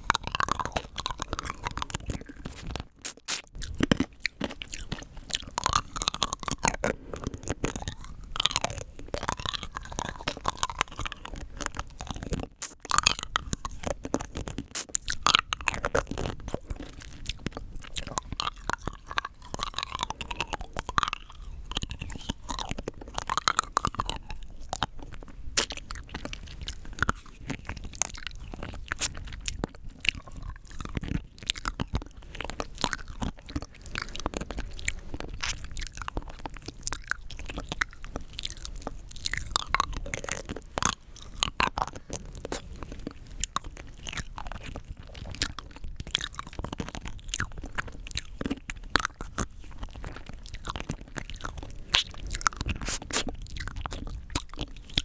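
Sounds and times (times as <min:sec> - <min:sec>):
candy crunching while chewed: 0:00.0 - 0:55.0
wet mouth sounds: 0:00.0 - 0:55.0.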